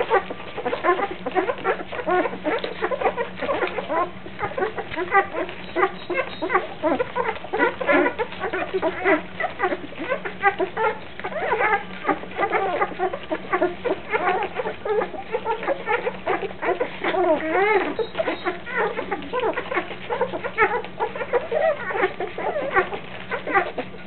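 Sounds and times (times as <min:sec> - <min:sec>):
puppies squeaking and whimpering: 0:00.0 - 0:24.0
puppy whining: 0:00.0 - 0:24.0.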